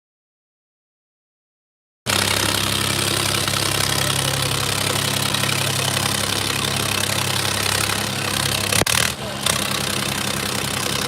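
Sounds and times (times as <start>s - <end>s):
tractor diesel engine running: 2.1s - 11.0s.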